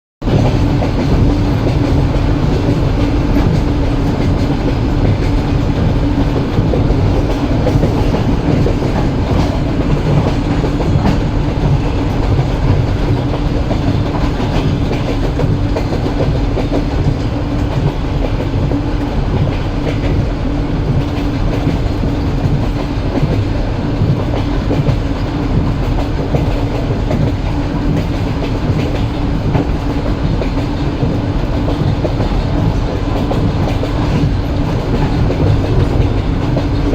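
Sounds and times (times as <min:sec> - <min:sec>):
railway carriage rumble: 0:00.2 - 0:36.9.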